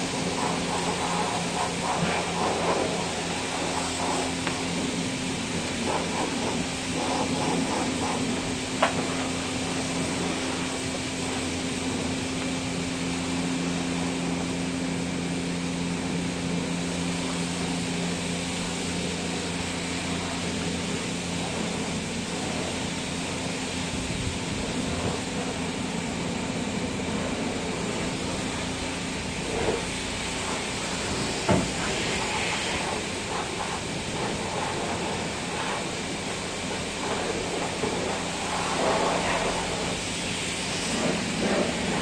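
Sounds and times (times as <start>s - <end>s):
high-pressure pump humming: 0.0s - 42.0s
hiss of spray: 0.0s - 42.0s.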